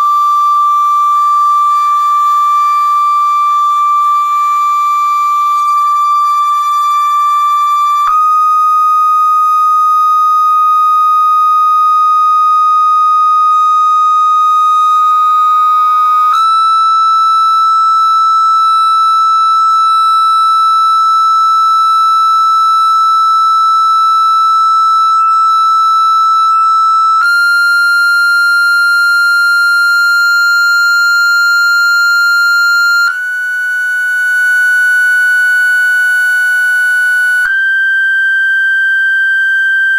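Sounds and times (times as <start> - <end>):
high sine-wave test tone: 0.0 - 39.9.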